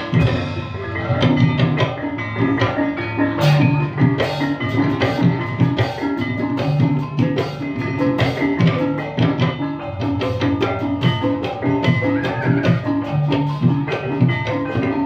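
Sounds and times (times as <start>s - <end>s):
drums striking steady rhythm: 0.0s - 15.0s
pitched percussion melody: 0.0s - 15.0s.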